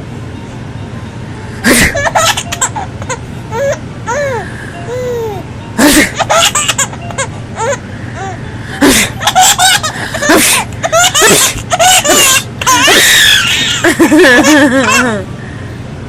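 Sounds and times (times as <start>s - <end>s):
baby laughing and squealing: 1.7s - 15.2s.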